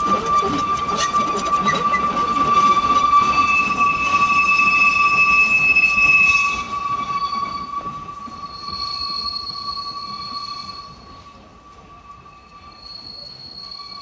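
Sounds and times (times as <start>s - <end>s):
train running: 0.0s - 14.0s.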